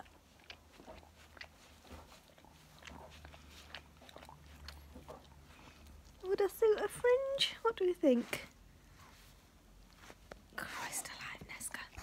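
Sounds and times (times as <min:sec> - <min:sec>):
dog mouthing at a hat: 0:00.0 - 0:12.0
low steady hum: 0:00.0 - 0:12.0.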